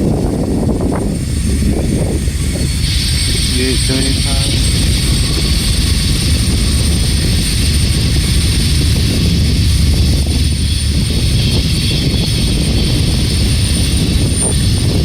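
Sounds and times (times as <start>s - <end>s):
diesel locomotives rumbling past: 0.0s - 15.0s.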